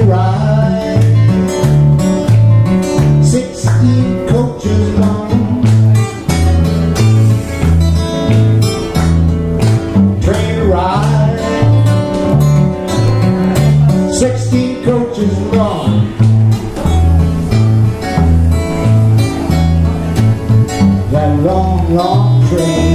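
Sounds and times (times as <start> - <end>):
acoustic guitar fingerpicking: 0.0 - 22.9.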